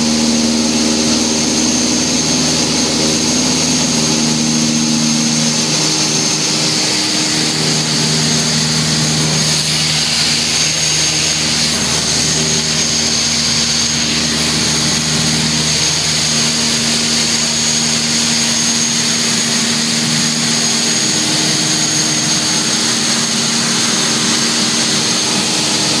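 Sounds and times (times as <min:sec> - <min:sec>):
aircraft engines droning: 0:00.0 - 0:26.0
high-pitched whine: 0:00.0 - 0:26.0.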